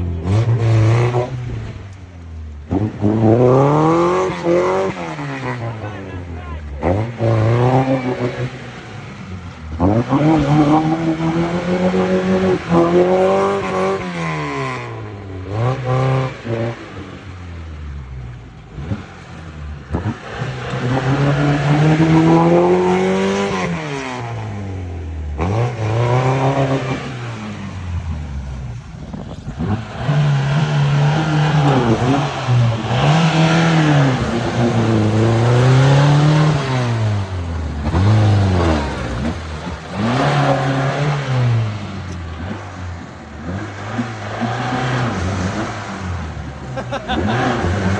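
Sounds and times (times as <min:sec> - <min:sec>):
off-road vehicle engine revving: 0:00.0 - 0:47.9.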